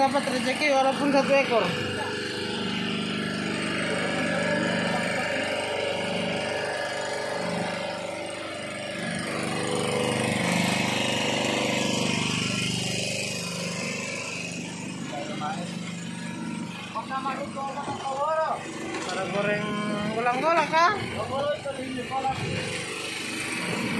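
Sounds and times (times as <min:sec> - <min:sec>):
boat engine running: 0:00.0 - 0:23.9.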